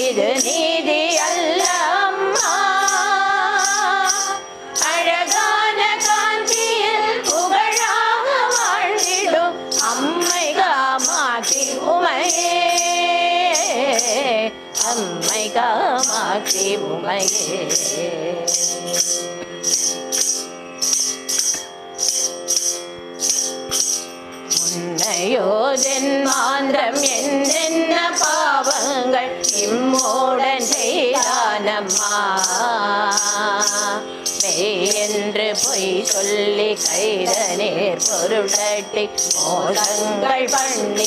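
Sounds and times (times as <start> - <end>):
women's group singing: 0.0 - 18.6, 24.6 - 41.0
jingling hand percussion: 0.0 - 41.0.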